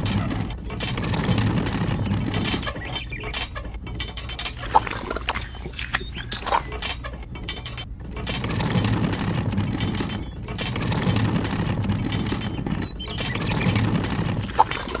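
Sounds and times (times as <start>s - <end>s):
small gears clicking and grinding: 0.0s - 5.4s, 6.3s - 15.0s.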